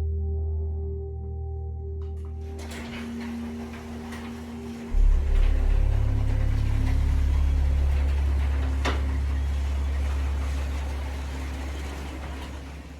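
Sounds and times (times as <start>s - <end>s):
low machine hum: 0.0s - 12.9s.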